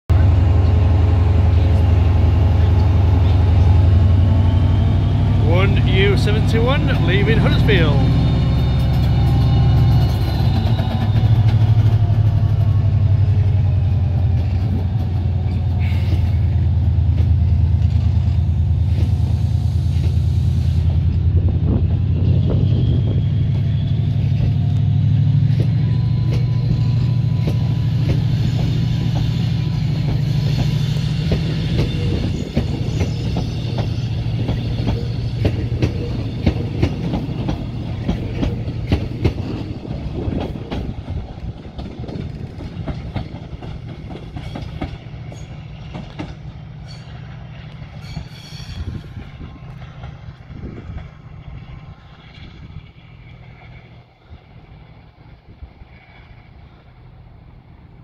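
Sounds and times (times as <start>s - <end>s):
train low hum: 0.1s - 58.0s
train wheels clicking over rail joints: 1.6s - 54.2s.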